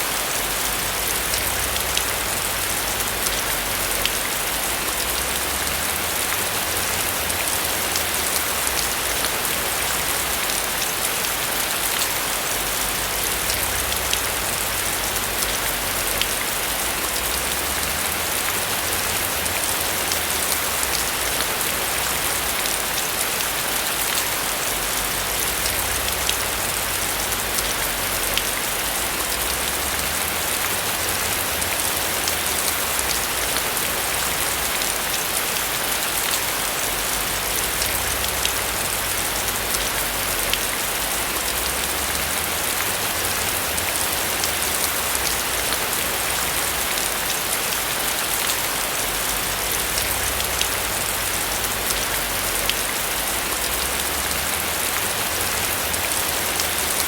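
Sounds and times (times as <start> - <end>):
rain pattering on a roof: 0.0 - 57.0.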